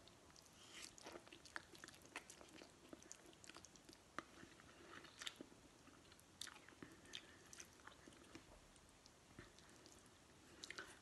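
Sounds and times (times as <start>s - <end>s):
wet chewing of noodles: 0.0s - 11.0s.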